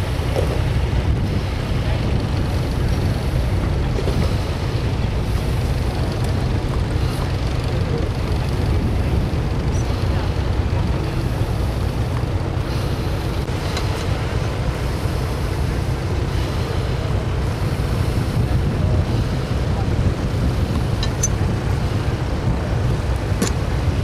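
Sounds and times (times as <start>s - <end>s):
tractor engine running: 0.0s - 24.0s
wind rumble on microphone: 0.0s - 24.0s.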